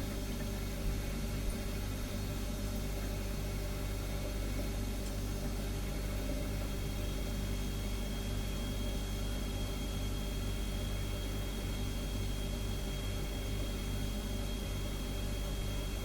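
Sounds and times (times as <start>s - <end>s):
refrigerator humming: 0.0s - 16.0s.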